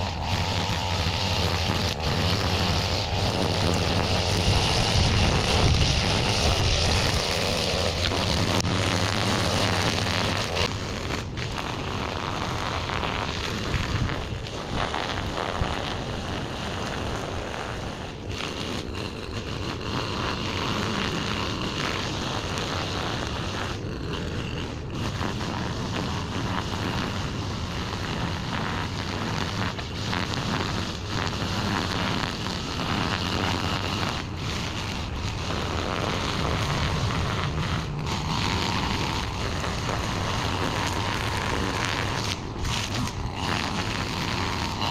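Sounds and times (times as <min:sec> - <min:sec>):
small gasoline engine running: 0:00.0 - 0:44.9.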